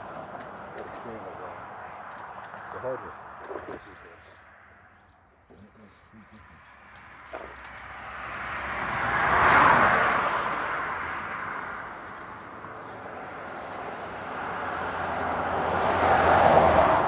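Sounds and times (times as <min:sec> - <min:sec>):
road vehicles passing by: 0:00.0 - 0:17.0.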